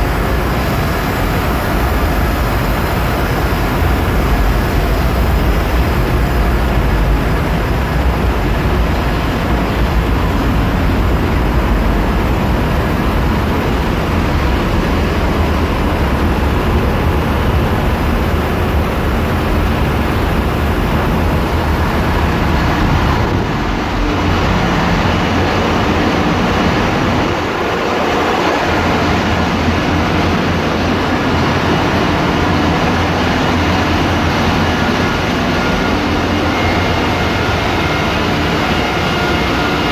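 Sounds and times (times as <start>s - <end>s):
engine room machinery running: 0.0s - 39.9s.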